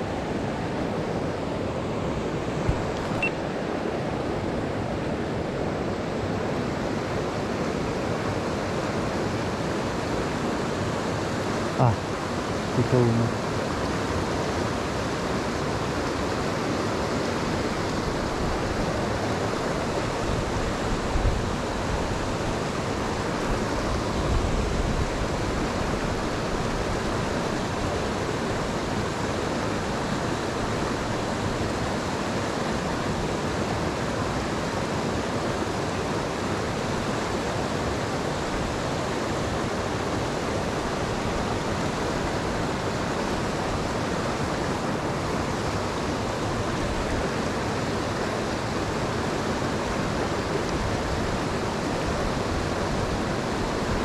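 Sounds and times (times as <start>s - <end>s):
mountain stream rushing: 0.0s - 54.0s.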